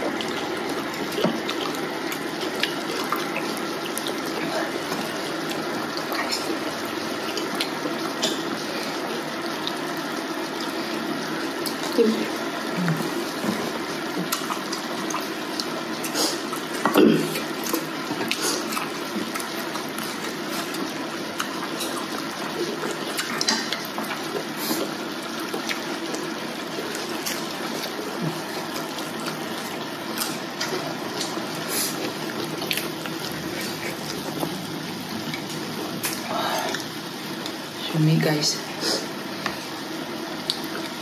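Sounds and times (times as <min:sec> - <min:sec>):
broth simmering in a pot: 0:00.0 - 0:41.0.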